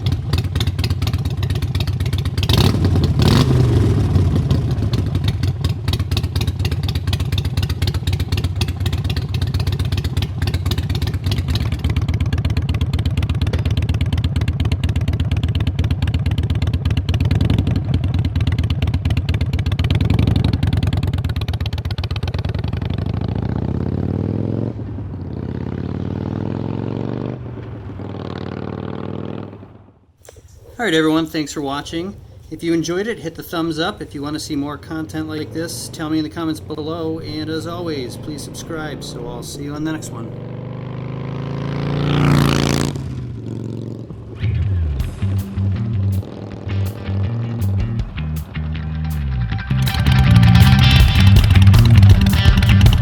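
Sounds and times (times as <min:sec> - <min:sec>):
motorcycle engine idling and revving: 0:00.0 - 0:30.2, 0:33.2 - 0:53.0.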